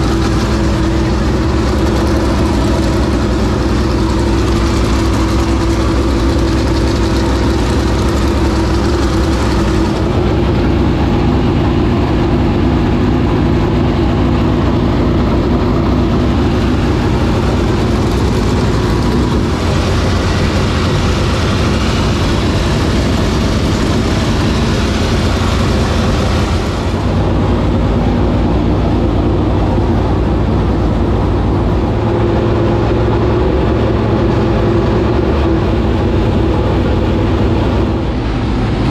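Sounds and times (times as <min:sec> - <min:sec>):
race car engine running loud: 0:00.0 - 0:38.9.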